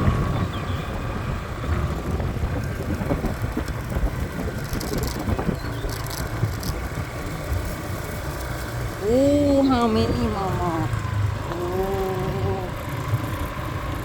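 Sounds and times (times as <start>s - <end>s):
motorbike engine rumble: 0.0s - 14.0s
tyres on dirt track: 0.0s - 14.0s.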